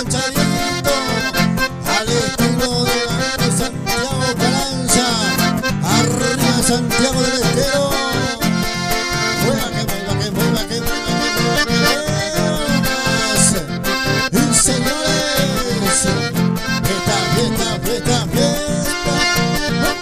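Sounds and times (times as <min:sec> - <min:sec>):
accordions playing: 0:00.0 - 0:20.0
acoustic guitar: 0:00.0 - 0:20.0.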